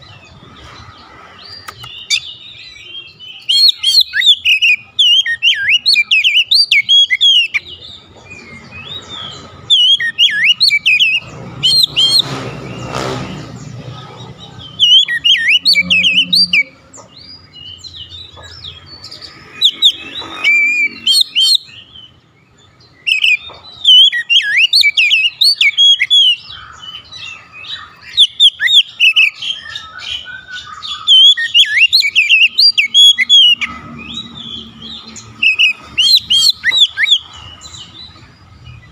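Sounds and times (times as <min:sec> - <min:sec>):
songbird whistling and chirping: 0:00.0 - 0:38.9.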